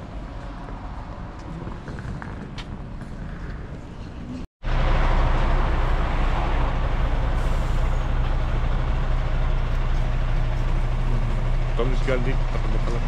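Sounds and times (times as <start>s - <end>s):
bus engine and road noise: 0.0s - 13.0s
constant low hum: 0.0s - 13.0s.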